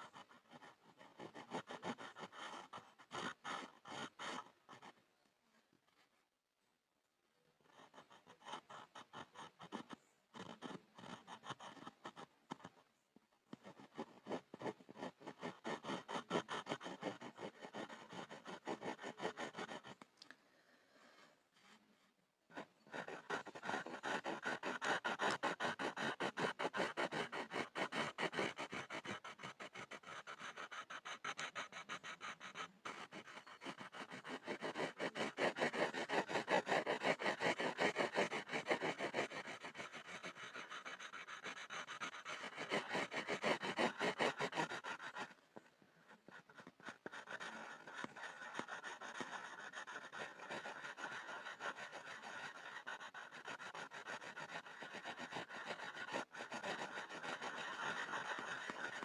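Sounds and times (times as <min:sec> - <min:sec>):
pencil scribbling on a board: 0:00.0 - 0:05.0, 0:07.6 - 0:20.0, 0:21.6 - 0:59.0.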